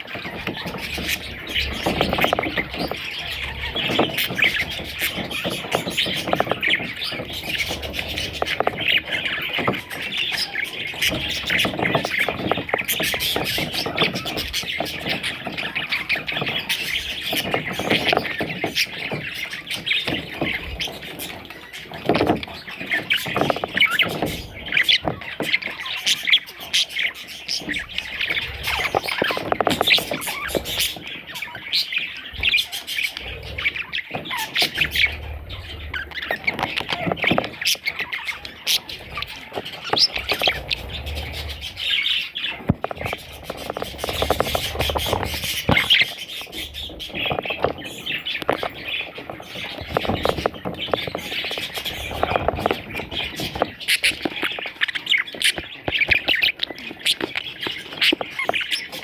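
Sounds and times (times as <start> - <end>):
budgerigar chicks squawking: 0.0 - 59.0.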